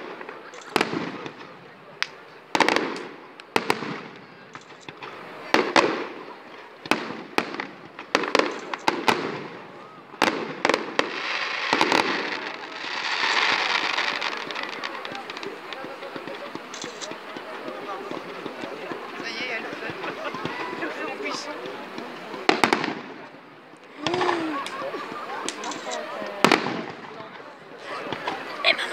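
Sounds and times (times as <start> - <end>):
fireworks bangs: 0.0 - 28.9
fireworks hiss: 0.0 - 28.9.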